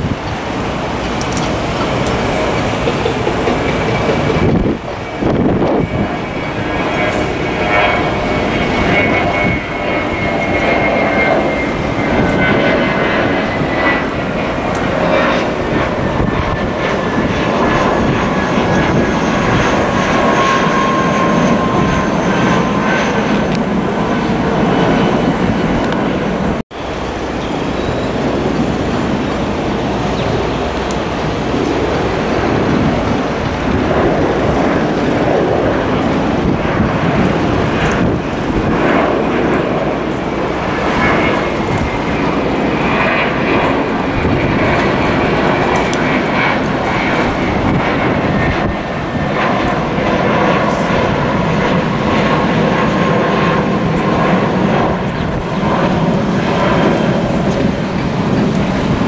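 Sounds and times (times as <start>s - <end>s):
jet airliner climbing out: 0.0s - 59.0s.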